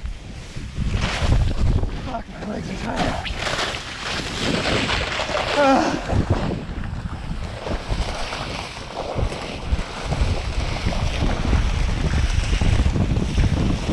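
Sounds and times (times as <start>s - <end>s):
snowboard sliding through snow: 0.0s - 13.9s
wind buffeting microphone: 0.0s - 13.9s.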